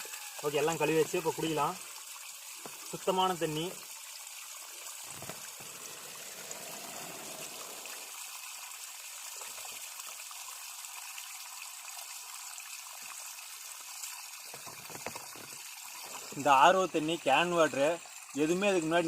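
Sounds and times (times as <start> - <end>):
running water splashing: 0.0 - 19.0.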